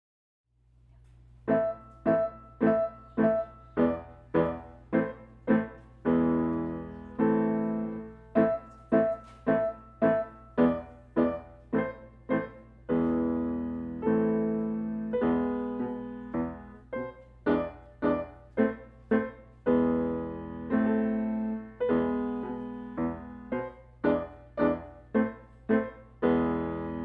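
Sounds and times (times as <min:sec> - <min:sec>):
piano piece: 0:01.4 - 0:27.0.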